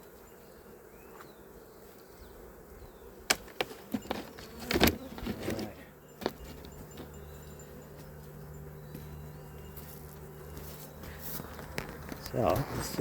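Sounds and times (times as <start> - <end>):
bees buzzing faintly: 0.0 - 13.0.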